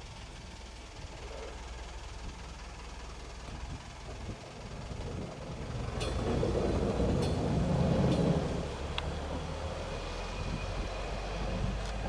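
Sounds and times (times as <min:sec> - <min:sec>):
engine and rail wheels: 0:00.0 - 0:12.0.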